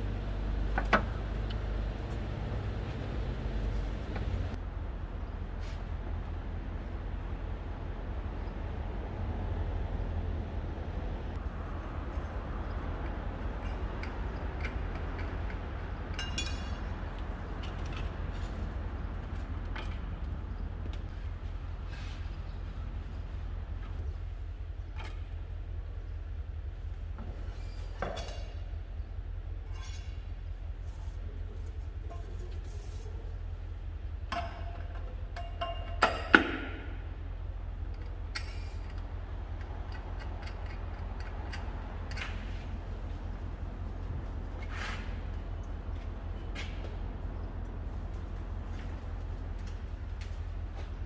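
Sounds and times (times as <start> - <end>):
steady low hum: 0.0 - 51.0
steady low rumble: 0.0 - 51.0.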